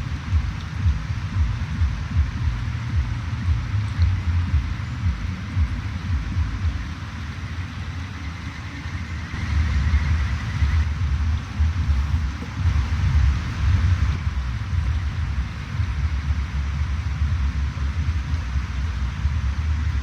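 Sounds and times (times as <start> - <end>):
stream rushing: 0.0 - 20.0
wind buffeting microphone: 0.0 - 20.0.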